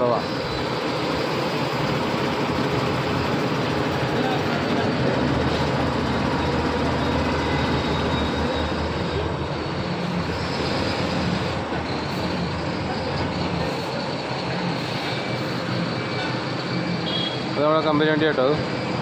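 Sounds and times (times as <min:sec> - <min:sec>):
diesel lorry engines idling: 0:00.0 - 0:19.0.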